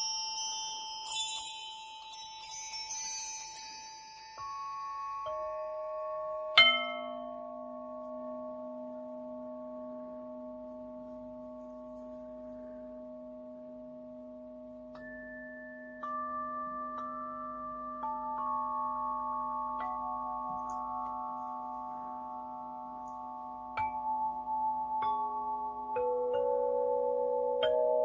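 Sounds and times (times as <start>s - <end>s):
bell-like meditation tones: 0.0s - 28.0s.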